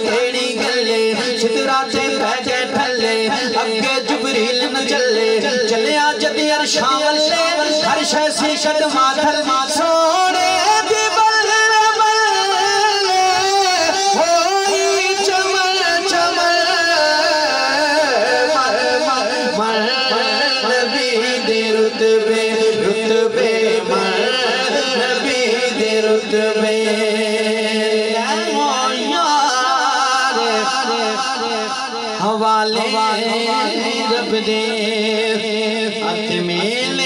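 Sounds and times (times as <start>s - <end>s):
person singing ornamented vocal: 0.0s - 37.0s.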